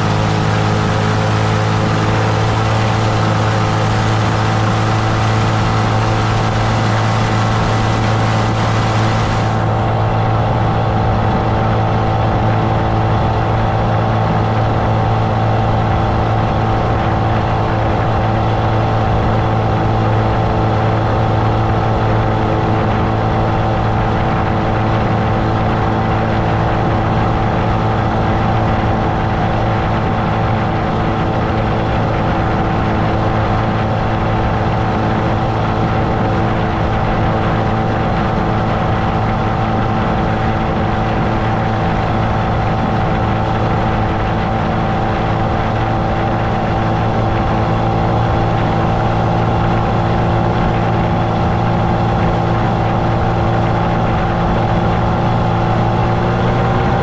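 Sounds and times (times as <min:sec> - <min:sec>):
outboard motor running: 0:00.0 - 0:57.0
water rushing behind boat: 0:00.0 - 0:57.0.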